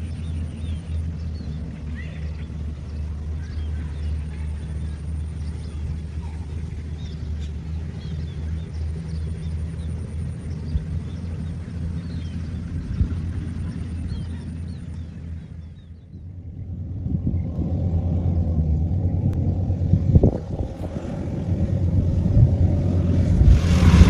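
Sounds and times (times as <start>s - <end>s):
harvester engine droning: 0.0s - 24.0s.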